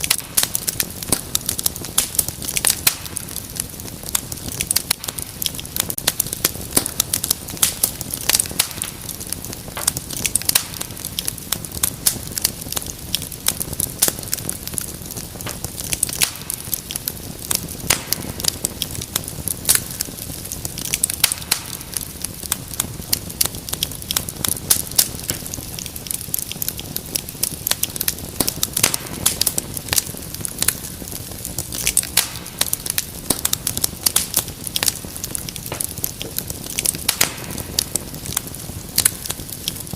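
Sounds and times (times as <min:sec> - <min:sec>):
flames rumbling: 0:00.0 - 0:39.9
wood fire crackling and popping: 0:00.0 - 0:39.9.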